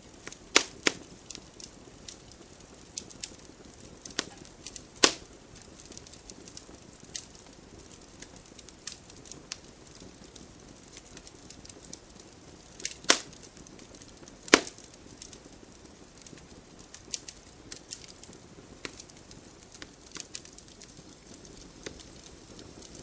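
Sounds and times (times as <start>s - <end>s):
wood fire crackling: 0.0s - 23.0s
loud sharp fire pops: 0.2s - 23.0s.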